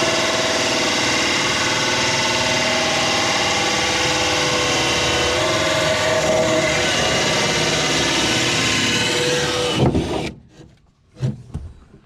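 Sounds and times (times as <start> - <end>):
electric drill boring: 0.0 - 10.3.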